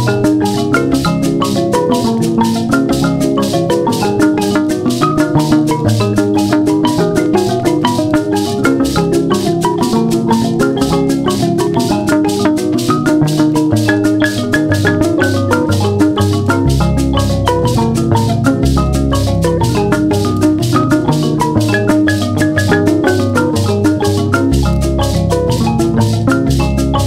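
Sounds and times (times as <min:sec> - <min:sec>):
quick melodic notes: 0:00.0 - 0:27.0.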